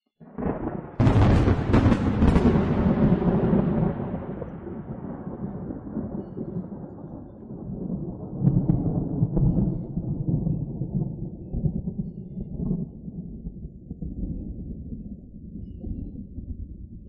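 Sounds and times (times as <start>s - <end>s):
thunder rumbling: 0.2s - 17.0s.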